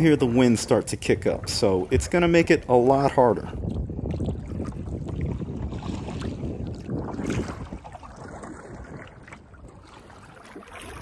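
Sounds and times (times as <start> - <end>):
water lapping around kayak: 0.0 - 11.0
wind buffeting microphone: 0.0 - 11.0.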